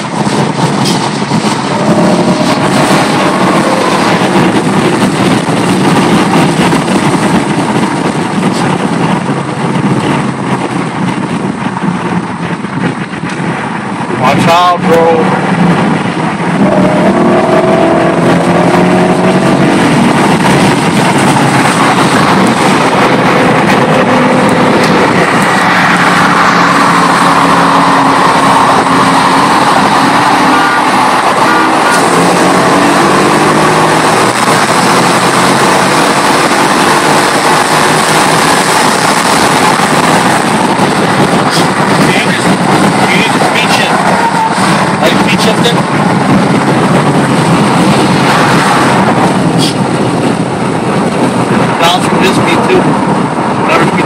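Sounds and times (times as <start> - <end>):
car engine at full throttle: 0.0 - 54.0
wind and road noise: 0.0 - 54.0.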